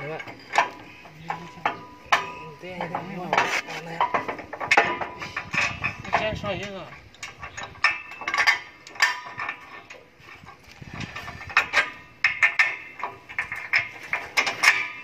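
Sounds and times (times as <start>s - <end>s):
metal clinks and knocks: 0.0s - 15.0s.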